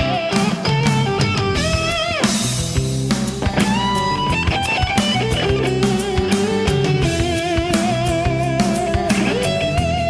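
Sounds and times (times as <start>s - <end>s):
drum kit: 0.0s - 10.0s
rock music: 0.0s - 10.0s.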